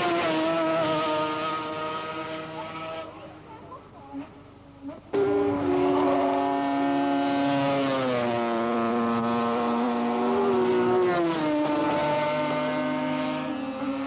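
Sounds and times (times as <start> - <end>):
racing motorcycle engines: 0.0 - 14.0.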